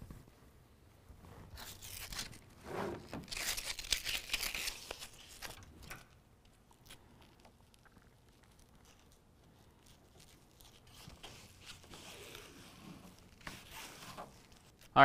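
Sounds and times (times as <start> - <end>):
adhesive backing tearing off: 1.6 - 14.9.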